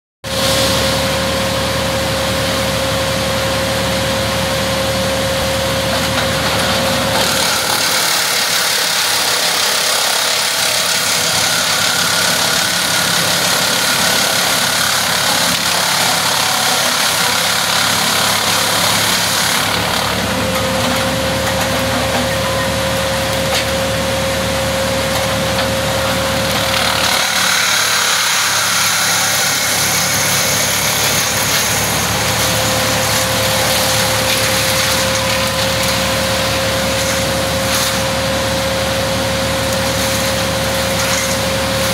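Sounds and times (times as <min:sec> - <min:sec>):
wood chipper running: 0:00.2 - 0:41.9.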